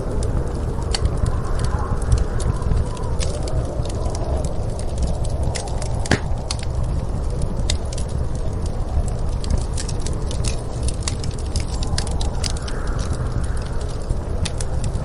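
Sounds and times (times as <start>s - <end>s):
storm wind rumble: 0.0s - 15.0s
wood fire crackling and popping: 0.0s - 15.0s.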